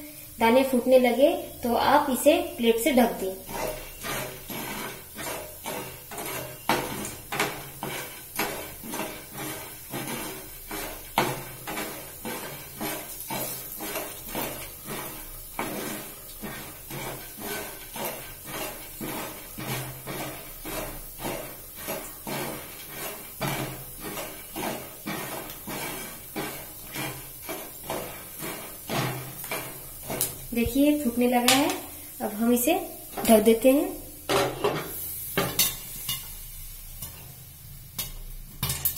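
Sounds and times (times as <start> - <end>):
metal spoon scraping frying pan: 2.4 - 38.9.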